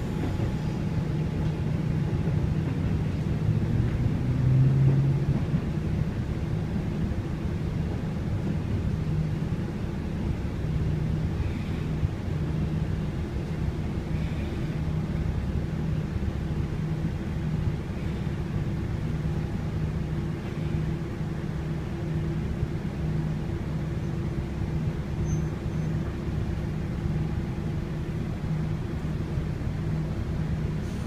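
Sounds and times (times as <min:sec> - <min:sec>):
diesel railcar engine hum: 0:00.0 - 0:31.0.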